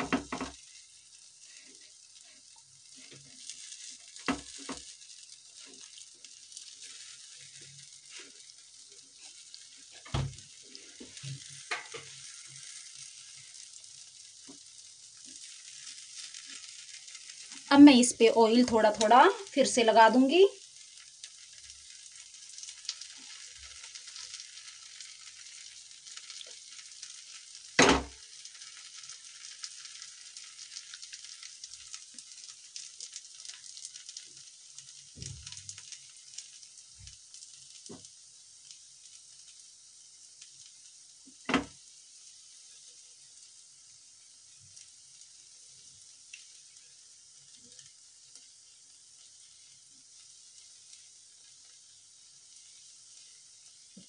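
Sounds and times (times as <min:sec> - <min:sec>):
oil sizzling and crackling: 0:00.0 - 0:54.0.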